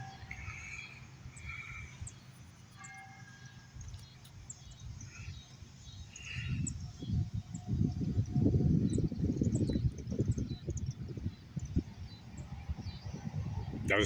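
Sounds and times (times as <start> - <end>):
birds chirping: 0.0 - 14.0
distant freight train rumble: 0.0 - 14.0.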